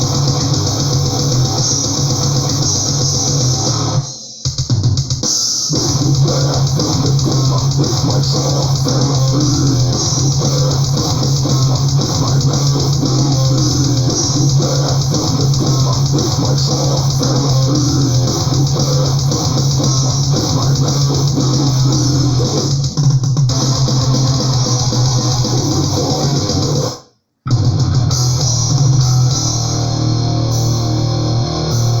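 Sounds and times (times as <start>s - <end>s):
metal music with distorted guitars: 0.0s - 32.0s.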